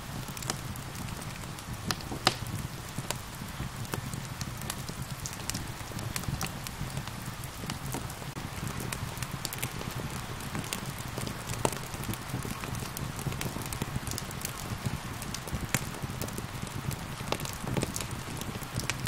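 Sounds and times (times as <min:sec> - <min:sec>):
rain hiss: 0:00.0 - 0:19.0
wood fire crackling and popping: 0:00.0 - 0:19.0.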